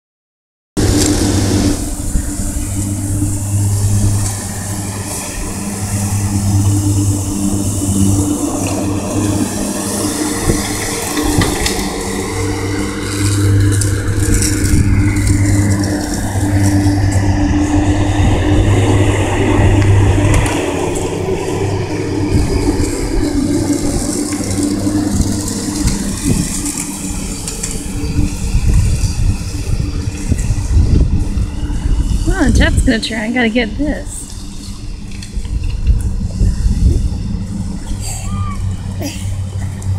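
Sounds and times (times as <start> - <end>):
low motor hum: 0.8 - 39.9
scooter wheels rolling on concrete: 0.8 - 39.9.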